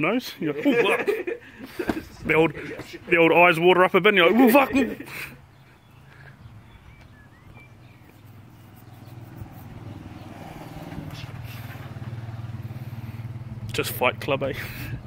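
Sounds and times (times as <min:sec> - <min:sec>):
vehicle engine humming: 0:01.4 - 0:15.0.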